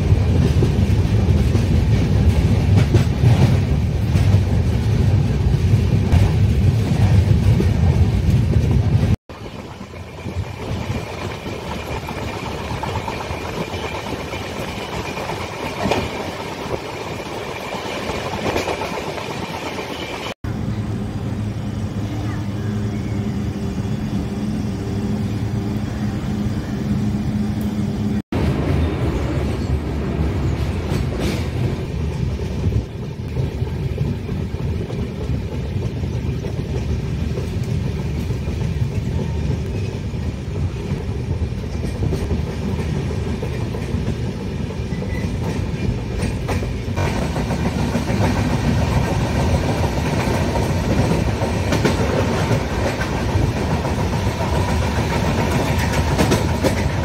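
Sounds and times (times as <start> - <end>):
passenger train rumbling on rails: 0.0 - 57.0.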